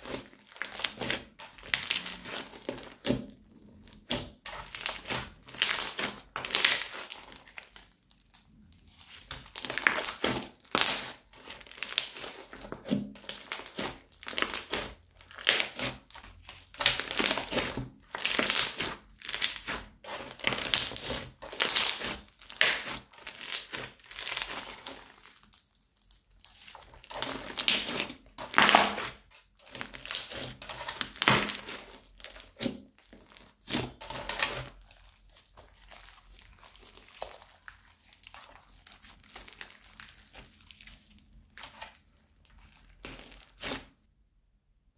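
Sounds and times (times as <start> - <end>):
crunchy slime squishing: 0.0 - 44.1.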